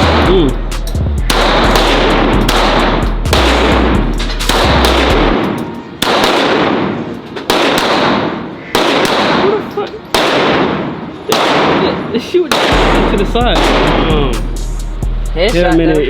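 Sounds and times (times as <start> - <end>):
handgun shots echoing: 1.3 - 14.3.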